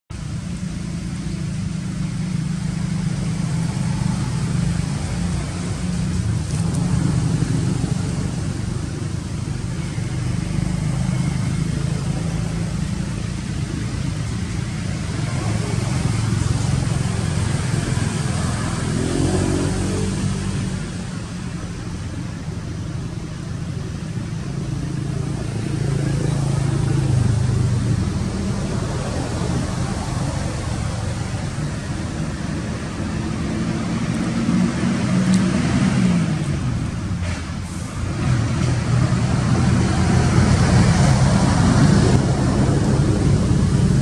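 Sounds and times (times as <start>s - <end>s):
motor engine rumbling: 0.1s - 44.0s.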